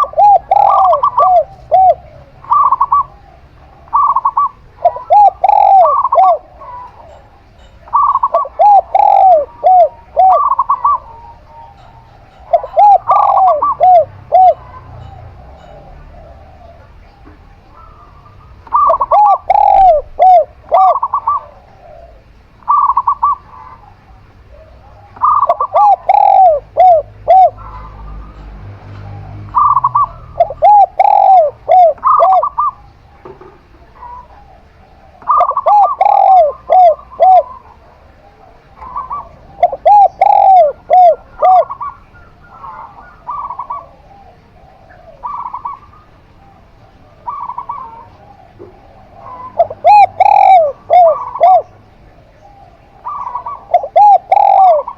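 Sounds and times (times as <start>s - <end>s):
doves cooing: 0.0s - 54.9s.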